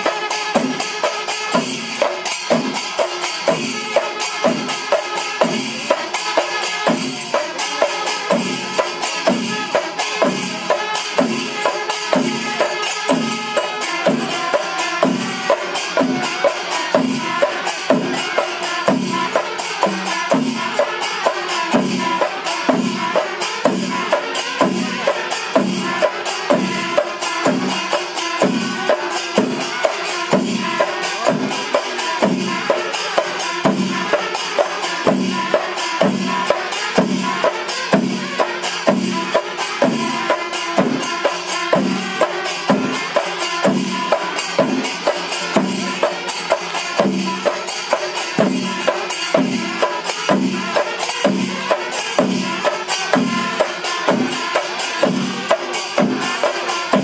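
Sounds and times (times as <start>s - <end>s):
heavy drum beat: 0.0s - 57.0s.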